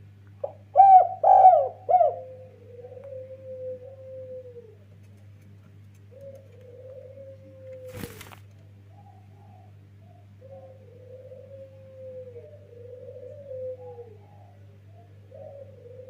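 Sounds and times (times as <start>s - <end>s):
dove cooing: 0.0s - 5.1s, 5.7s - 16.0s
steady low hum: 0.0s - 16.0s.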